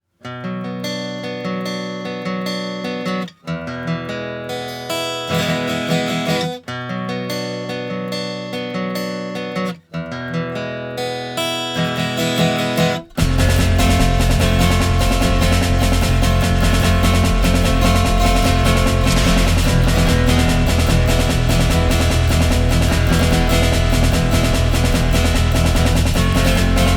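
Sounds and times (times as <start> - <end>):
strummed acoustic guitar music: 0.2 - 26.9.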